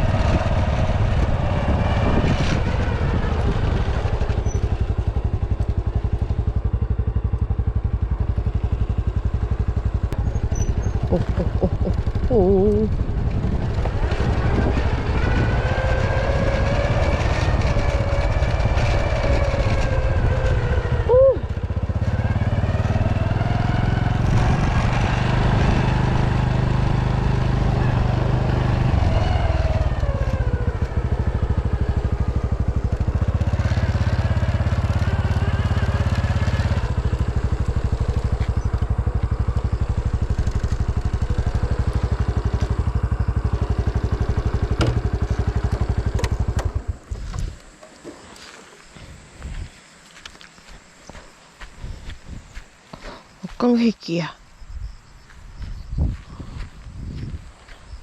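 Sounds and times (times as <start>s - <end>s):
motorcycle engine running: 0.0s - 54.0s, 55.2s - 58.0s.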